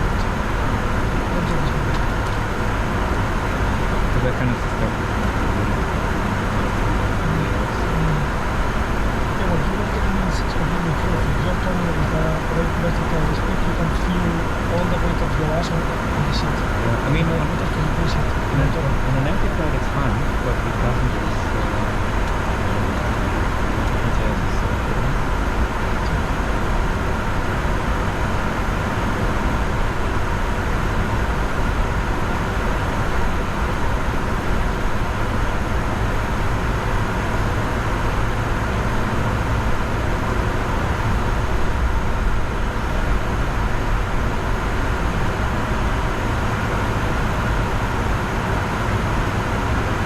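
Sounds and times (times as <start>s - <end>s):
faint steady hum: 0.0s - 50.0s
jet airflow and engine rush: 0.0s - 50.0s.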